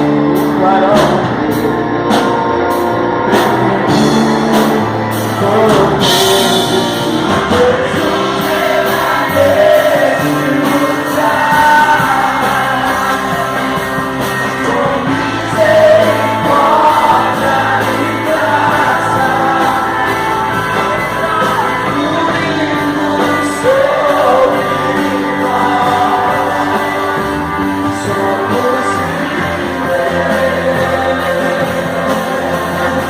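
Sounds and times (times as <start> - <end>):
rock gospel song with vocal: 0.0 - 33.0.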